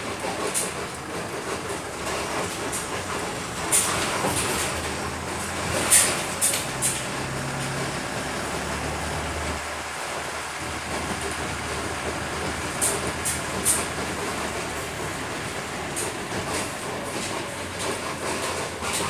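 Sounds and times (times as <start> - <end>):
bus engine and road noise: 0.0 - 19.0
low engine hum: 2.0 - 19.0.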